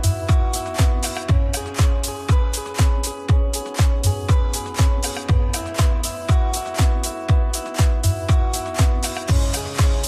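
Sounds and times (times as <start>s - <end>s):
held chords: 0.0s - 10.0s
kick drum: 0.0s - 10.0s.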